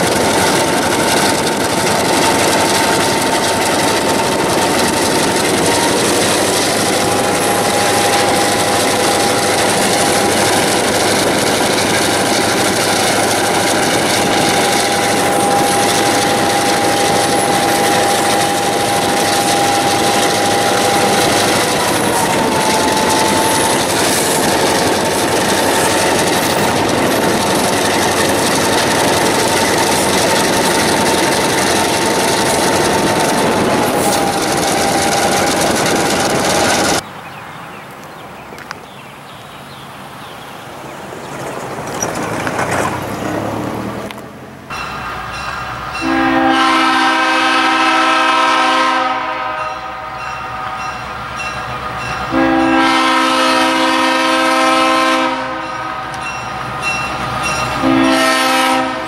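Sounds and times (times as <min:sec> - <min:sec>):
diesel locomotive engine droning: 0:00.0 - 0:37.8, 0:39.6 - 0:59.0.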